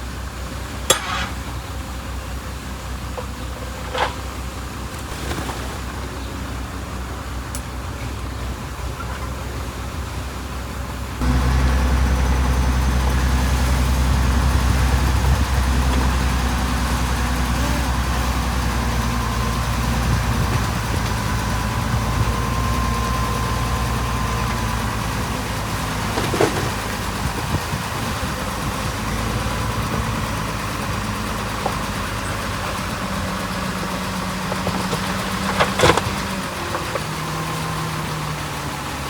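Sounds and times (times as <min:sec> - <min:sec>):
heavy machinery diesel engine: 0:00.0 - 0:39.0.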